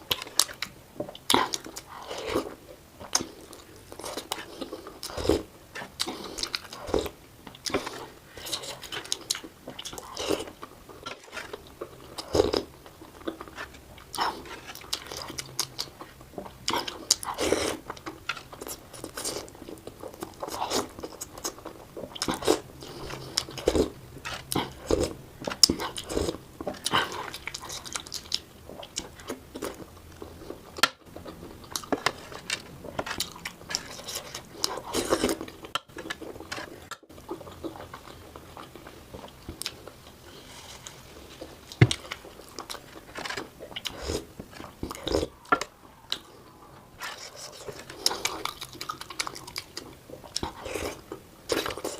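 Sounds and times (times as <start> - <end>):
food crunching: 0.0 - 51.9
person chewing with mouth smacks: 0.1 - 51.9.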